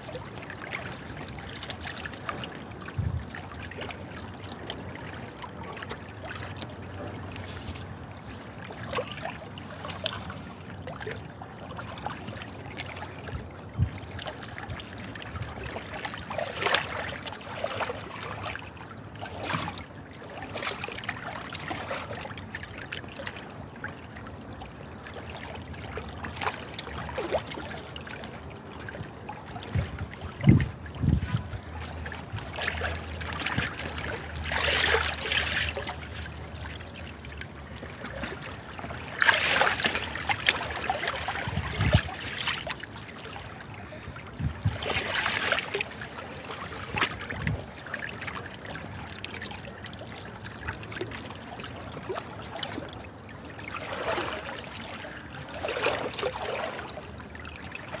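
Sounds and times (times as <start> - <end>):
water splashing: 0.0 - 58.0.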